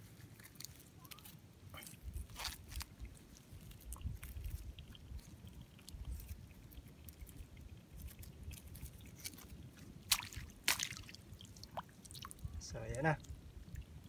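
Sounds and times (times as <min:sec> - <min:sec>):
wet rustling and small clicks: 0:00.0 - 0:14.0.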